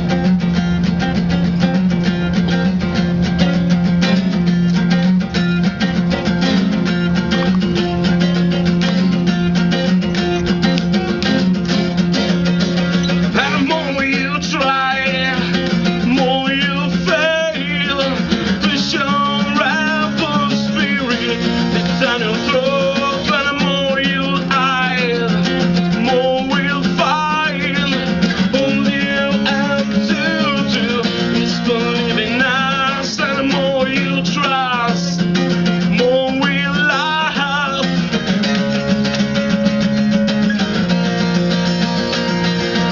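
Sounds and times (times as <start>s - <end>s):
acoustic guitar chords: 0.0s - 42.9s.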